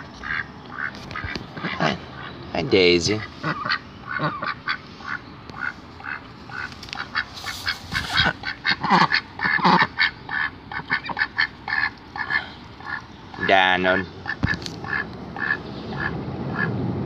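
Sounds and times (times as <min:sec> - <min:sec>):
ducks quacking: 0:00.0 - 0:16.8.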